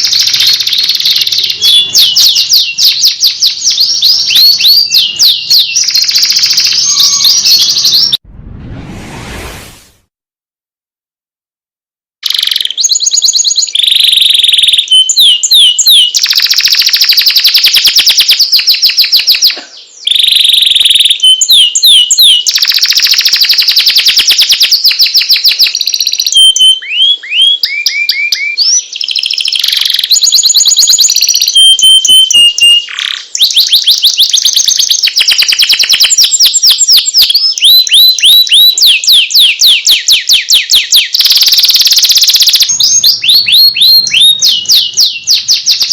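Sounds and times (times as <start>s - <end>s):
canary singing: 0.0s - 8.2s, 12.2s - 45.9s.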